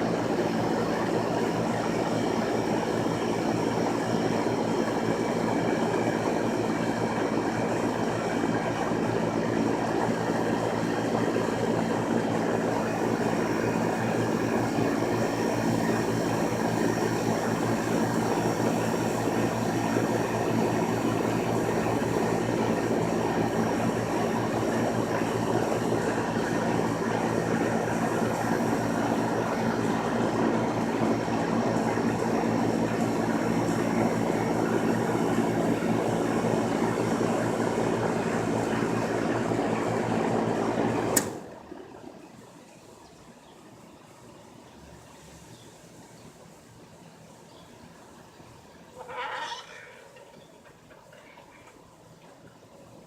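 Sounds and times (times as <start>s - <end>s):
air conditioner humming: 0.0s - 53.0s.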